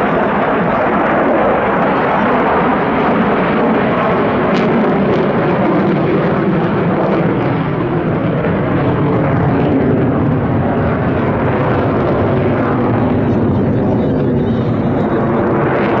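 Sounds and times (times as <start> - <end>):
fighter jet engine noise: 0.0 - 16.0.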